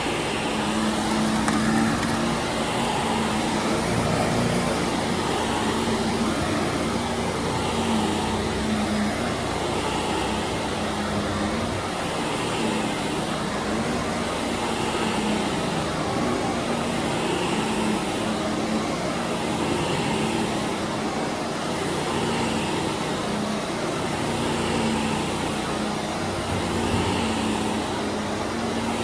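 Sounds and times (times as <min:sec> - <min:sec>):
carpet cleaning machine motor drone: 0:00.0 - 0:29.0
power washer hiss: 0:00.0 - 0:29.0.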